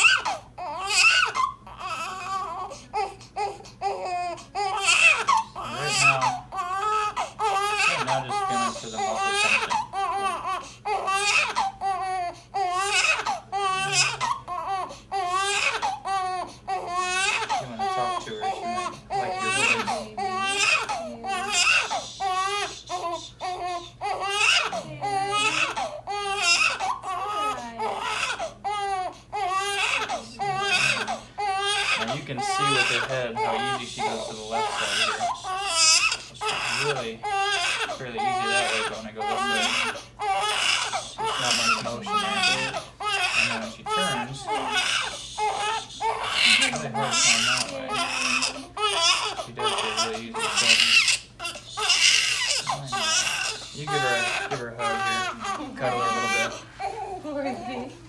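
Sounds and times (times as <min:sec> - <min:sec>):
newborn baby crying: 0:00.0 - 0:58.0.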